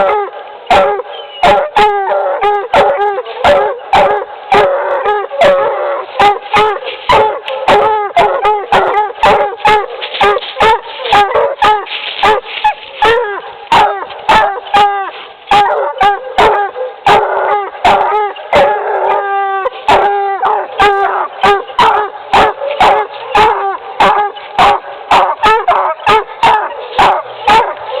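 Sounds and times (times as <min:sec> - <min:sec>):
dog bawling: 0:00.0 - 0:28.0
dogs barking: 0:00.0 - 0:28.0.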